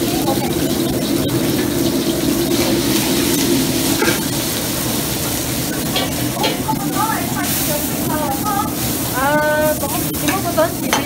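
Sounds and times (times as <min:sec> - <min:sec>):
gas burners rushing: 0:00.0 - 0:11.0
running water: 0:00.0 - 0:11.0.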